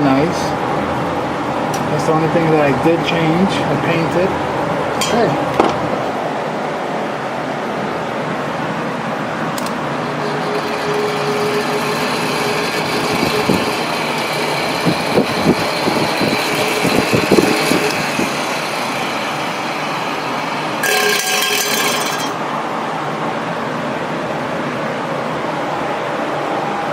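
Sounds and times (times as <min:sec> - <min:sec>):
electric fan whooshing: 0:00.0 - 0:26.9.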